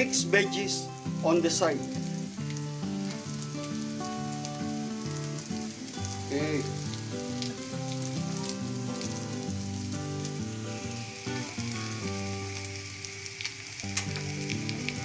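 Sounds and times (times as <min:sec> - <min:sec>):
background music of held notes: 0:00.0 - 0:13.2
food sizzling in a pan: 0:00.0 - 0:15.0.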